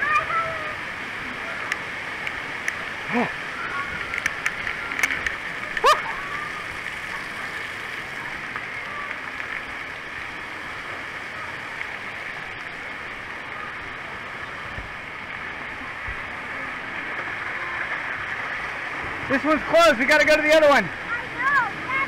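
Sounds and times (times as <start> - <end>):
rushing and falling water: 0.0 - 22.0.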